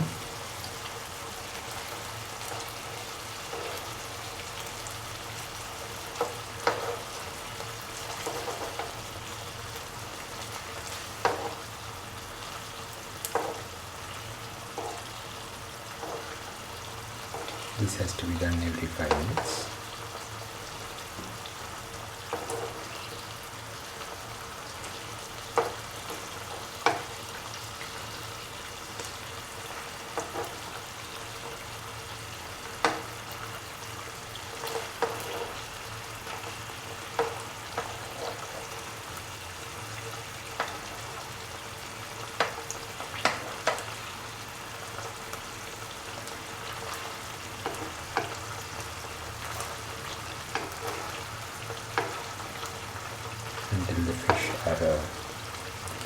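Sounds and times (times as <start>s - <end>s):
fish sizzling in hot oil: 0.0s - 56.0s.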